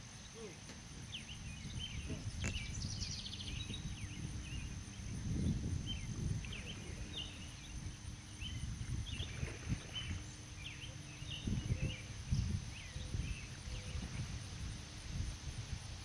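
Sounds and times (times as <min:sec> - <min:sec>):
small birds chirping: 0:00.0 - 0:14.4
wind rumbling on microphone: 0:00.7 - 0:16.0.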